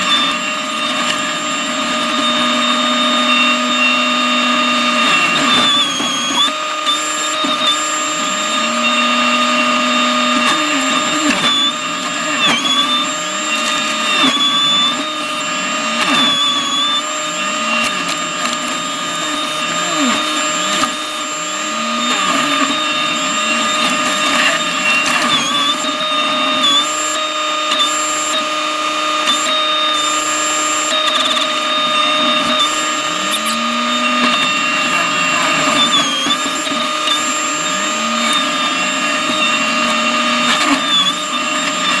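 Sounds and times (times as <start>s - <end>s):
mulching head high whine: 0.0s - 42.0s
skid steer engine at high throttle: 0.0s - 42.0s.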